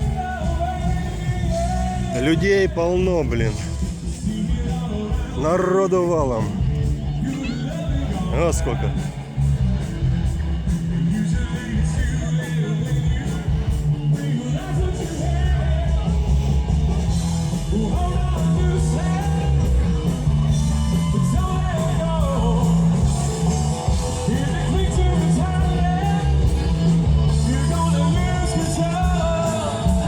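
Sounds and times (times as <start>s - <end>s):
person singing: 0.0s - 3.1s, 3.7s - 9.2s, 10.8s - 30.0s
electric guitar: 0.0s - 30.0s
heavy bass: 0.0s - 30.0s
steady drum beat: 0.0s - 30.0s.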